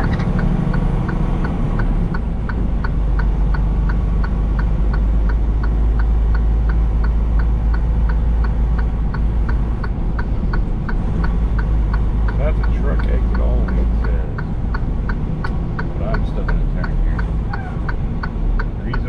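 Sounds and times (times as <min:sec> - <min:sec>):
diesel engine low drone: 0:00.0 - 0:19.0
road noise: 0:00.0 - 0:19.0
turn signal clicking: 0:00.0 - 0:19.0.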